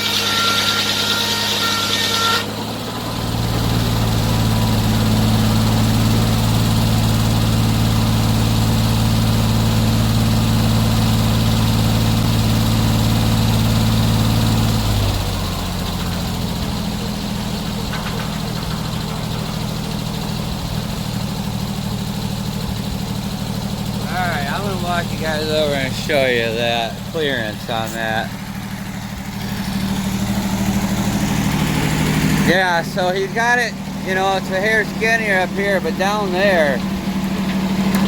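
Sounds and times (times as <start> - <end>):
sawmill engine running: 0.0 - 38.0.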